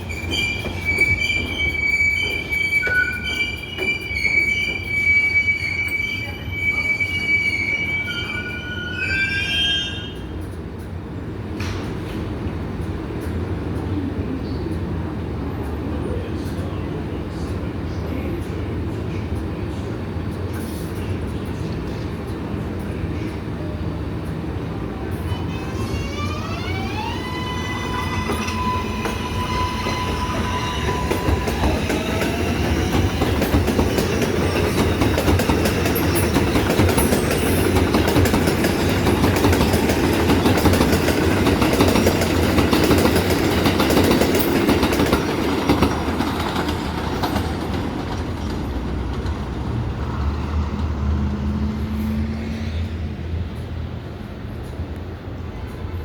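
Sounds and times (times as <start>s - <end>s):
subway train propulsion whine: 0.0s - 56.0s
train rumble and wheel clatter: 0.0s - 56.0s.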